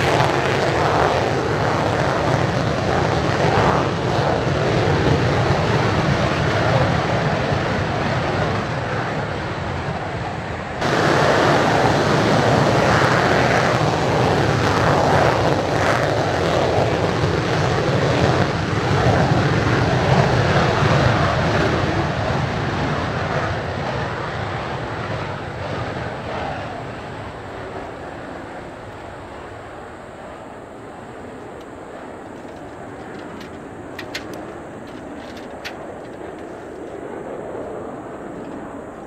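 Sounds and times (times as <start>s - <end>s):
jet fighters roaring at take-off: 0.0s - 39.0s.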